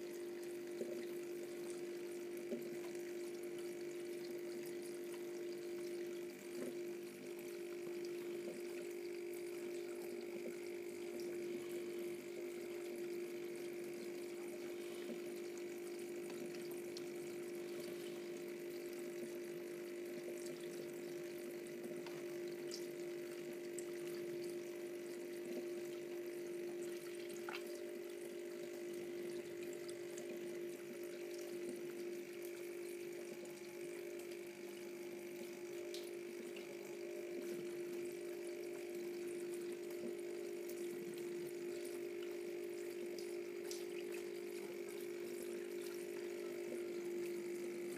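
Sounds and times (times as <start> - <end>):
electric water pump humming: 0.0 - 47.9
water flowing and trickling: 0.0 - 47.9.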